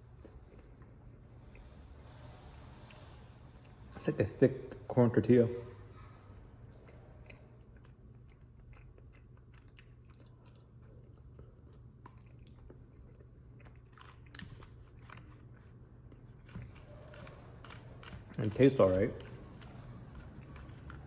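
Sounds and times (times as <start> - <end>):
close-up chewing: 0.0 - 2.1, 5.8 - 21.0
low steady hum: 0.0 - 21.0.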